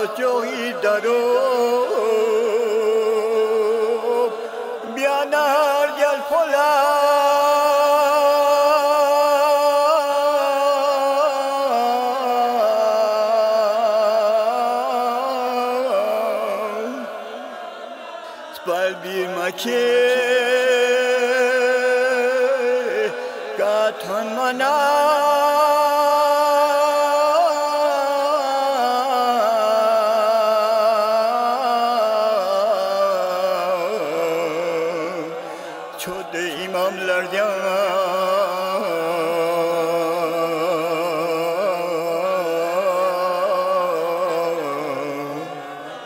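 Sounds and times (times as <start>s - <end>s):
mournful religious chanting: 0.0s - 46.0s.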